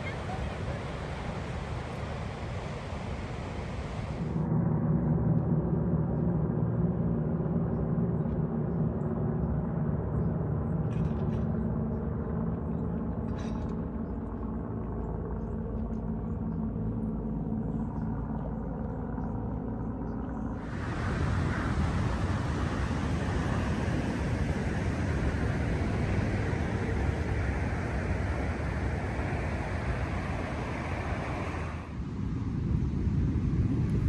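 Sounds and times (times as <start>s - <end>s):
low droning hum: 0.0s - 34.0s.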